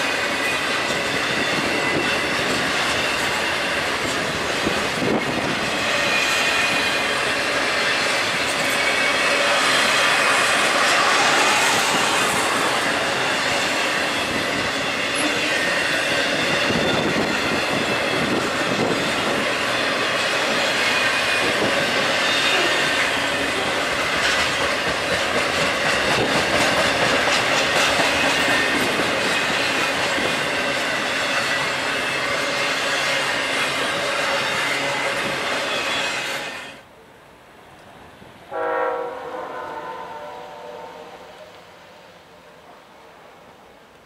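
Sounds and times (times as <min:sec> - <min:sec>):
steel wheels on rail: 0:00.0 - 0:37.0, 0:37.6 - 0:44.0.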